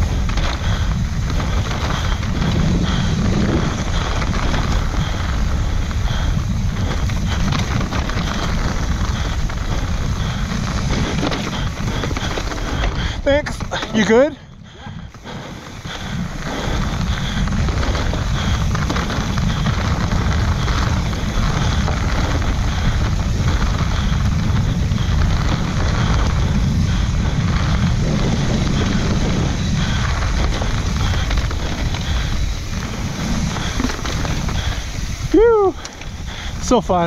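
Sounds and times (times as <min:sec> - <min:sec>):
bike tyres over dirt and rock: 0:00.0 - 0:37.0
wind rumble on microphone: 0:00.0 - 0:37.0.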